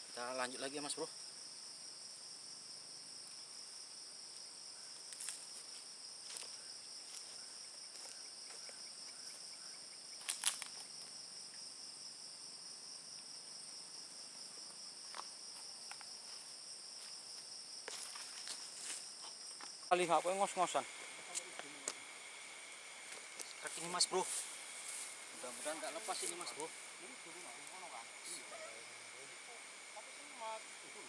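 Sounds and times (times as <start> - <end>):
insect chorus chirring: 0.0 - 31.0.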